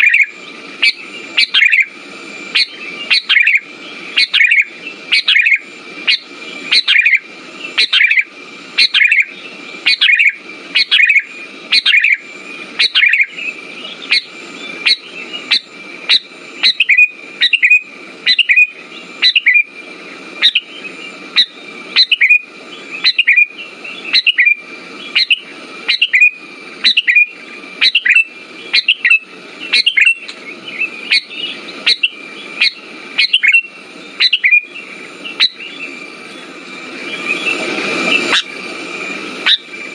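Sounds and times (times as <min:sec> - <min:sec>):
bird calls: 0:00.0 - 0:38.6
thin steady high tone: 0:00.0 - 0:39.9.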